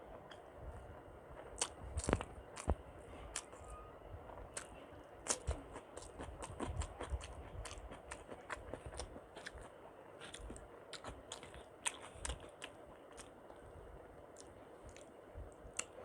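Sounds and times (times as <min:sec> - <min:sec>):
chewing with wet mouth clicks: 0:01.4 - 0:03.7, 0:04.3 - 0:16.0.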